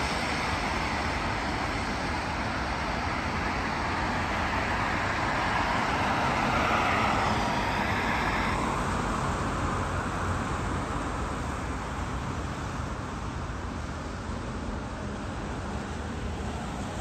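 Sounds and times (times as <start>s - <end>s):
distant traffic: 0.0s - 17.0s
tyres hissing on wet road: 0.0s - 17.0s.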